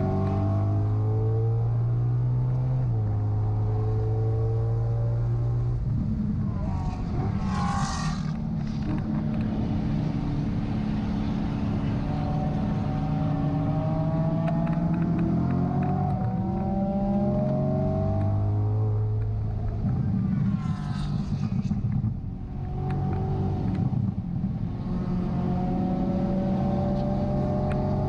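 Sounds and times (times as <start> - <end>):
car engine revving under load: 0.0 - 28.0.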